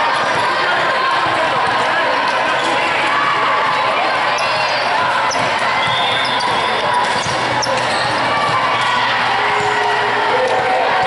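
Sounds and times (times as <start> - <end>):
voices calling and chattering: 0.0 - 11.0.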